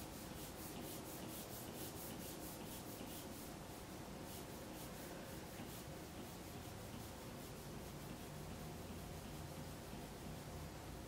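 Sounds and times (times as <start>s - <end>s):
stylus rubbing on tablet screen: 0.0s - 10.6s.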